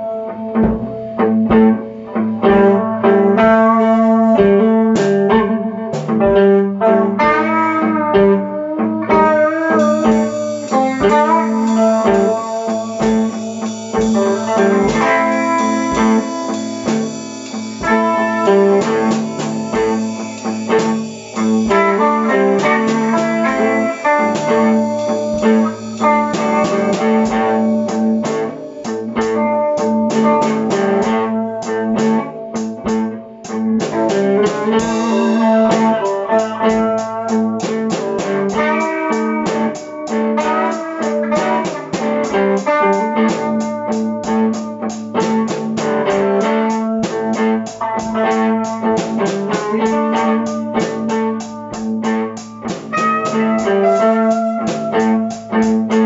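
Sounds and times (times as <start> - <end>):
drum kit beat: 0.0 - 56.0
electric guitar playing blues: 0.0 - 56.0.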